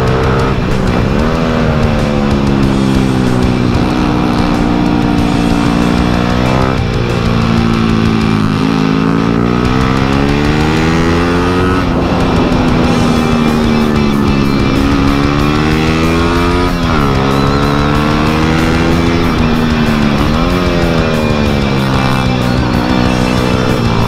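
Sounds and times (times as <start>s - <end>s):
motorcycle engine revving: 0.0s - 24.0s
music: 0.0s - 24.0s.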